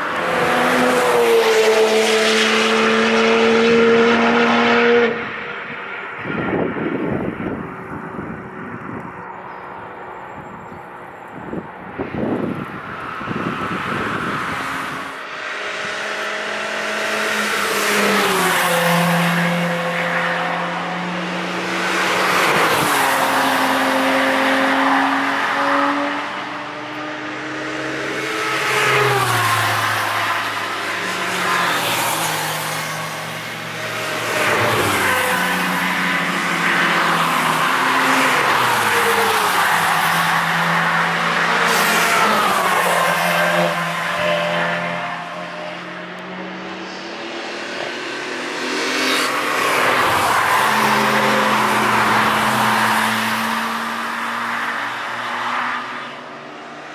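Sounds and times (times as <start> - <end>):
race cars passing: 0.0 - 56.9.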